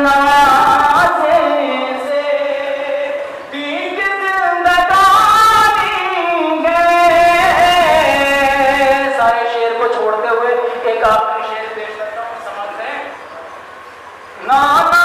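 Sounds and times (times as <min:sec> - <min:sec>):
man chanting devotional poetry: 0:00.0 - 0:13.6, 0:14.4 - 0:15.0.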